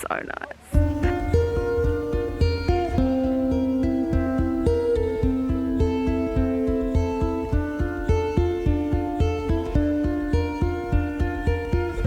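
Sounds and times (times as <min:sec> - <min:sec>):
low bass pulse: 0:00.7 - 0:12.0
plucked acoustic guitar: 0:00.7 - 0:12.0.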